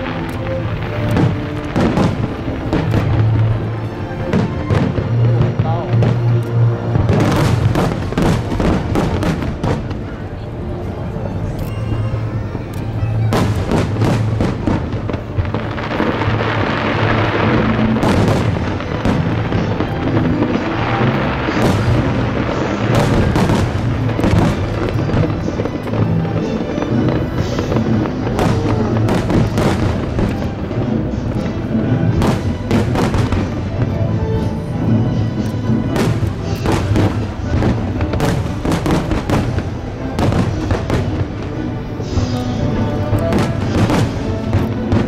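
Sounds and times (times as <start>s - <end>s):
background music: 0.0s - 45.0s
fireworks bursting and crackling: 0.0s - 45.0s.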